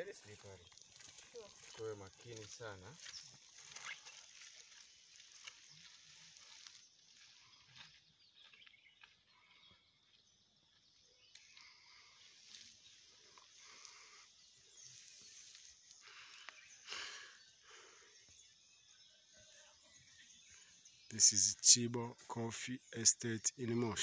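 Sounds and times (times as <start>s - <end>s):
soft footsteps on dirt path: 0.0s - 22.5s.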